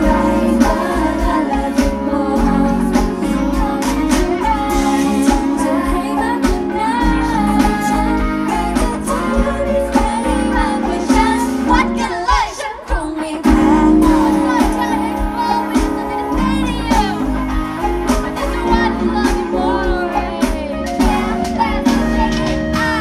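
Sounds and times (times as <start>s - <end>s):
amplified pop backing music: 0.0s - 23.0s
woman singing into a microphone: 0.0s - 23.0s.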